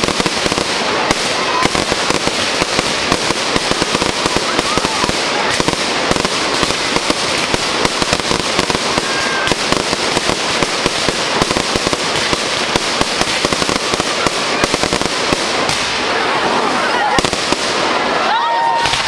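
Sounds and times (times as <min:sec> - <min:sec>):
fireworks cracking and popping: 0:00.0 - 0:19.0.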